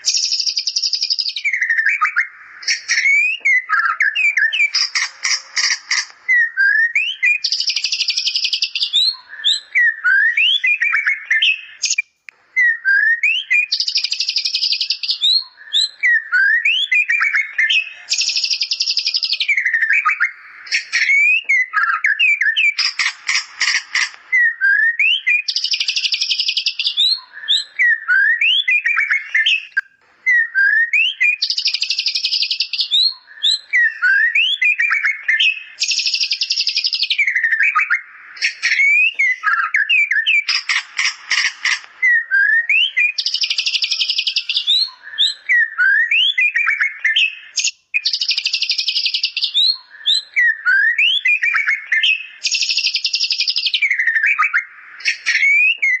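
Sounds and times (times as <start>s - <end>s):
bird whistles: 0.0s - 12.0s, 12.6s - 56.0s
rapid dry bird trills: 0.0s - 12.1s, 13.5s - 24.5s, 31.2s - 56.0s.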